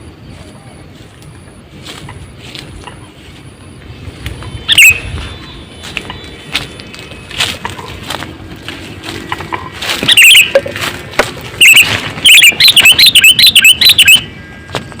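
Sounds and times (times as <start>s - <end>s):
bulbul calling: 1.3s - 8.2s, 8.8s - 14.6s.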